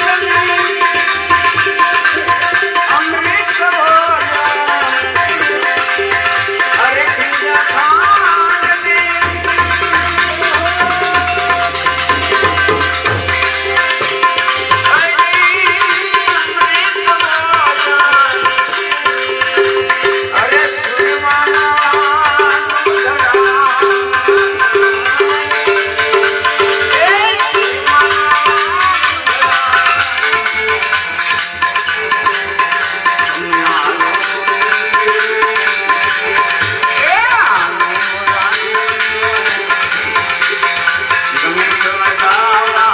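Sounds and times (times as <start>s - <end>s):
devotional folk music: 0.0s - 42.9s
rattle percussion: 0.0s - 42.9s
tabla: 0.0s - 42.9s.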